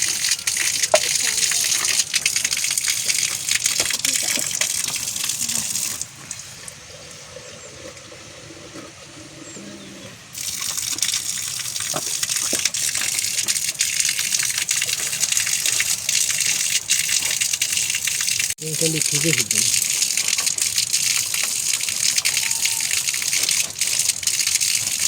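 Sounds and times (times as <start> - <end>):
rushing gushing water: 0.0 - 9.2, 10.2 - 25.0.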